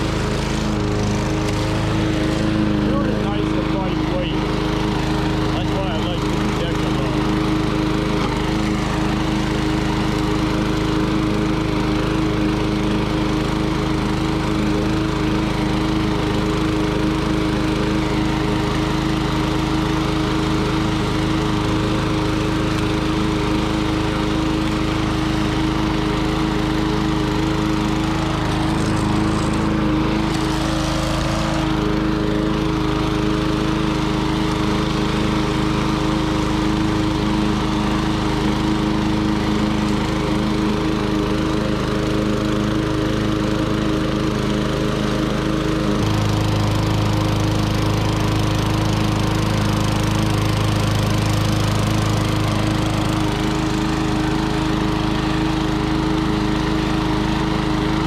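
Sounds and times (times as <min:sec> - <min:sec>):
push mower engine running: 0:00.0 - 0:58.0.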